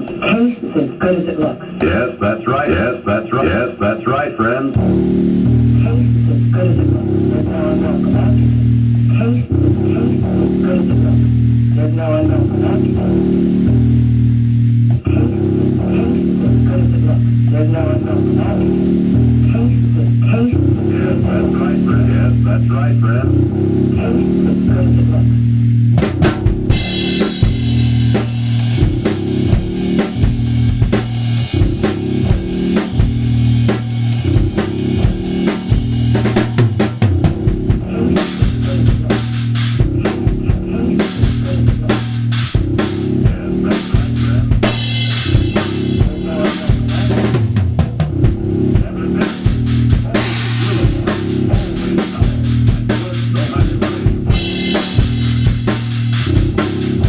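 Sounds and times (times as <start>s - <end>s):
drum kit playing: 0.0s - 3.5s, 4.7s - 57.0s
looped backing track with bass line: 4.7s - 57.0s.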